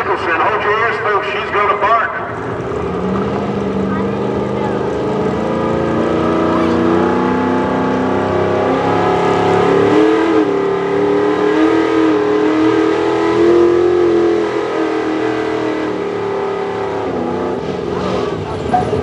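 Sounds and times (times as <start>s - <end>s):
truck engine revving under load: 2.2s - 19.0s.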